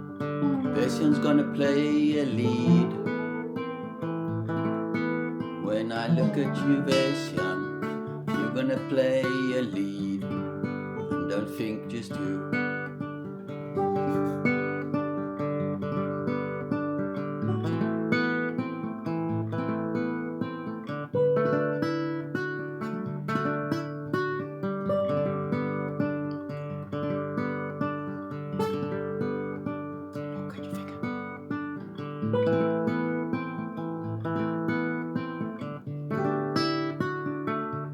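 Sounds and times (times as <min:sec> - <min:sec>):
picked guitar lead melody: 0:00.0 - 0:37.9
strummed acoustic guitar chords: 0:00.0 - 0:37.9.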